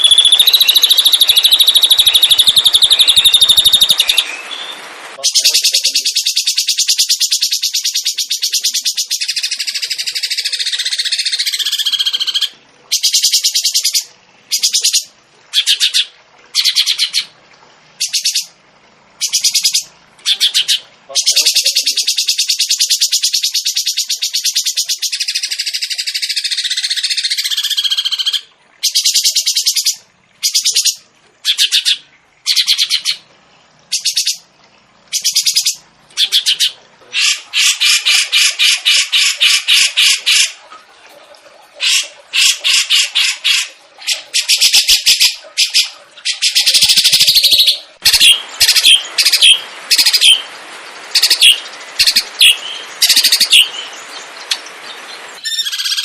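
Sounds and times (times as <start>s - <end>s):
songbird warbling and trilling: 0.0s - 17.3s, 18.0s - 18.6s, 19.2s - 33.2s, 33.9s - 34.5s, 35.1s - 40.6s, 41.8s - 56.0s.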